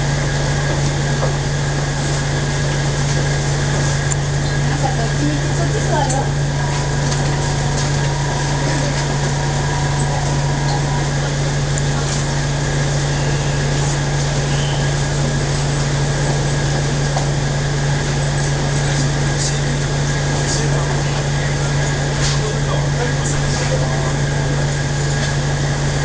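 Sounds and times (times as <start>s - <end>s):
electric train low hum: 0.0s - 26.0s.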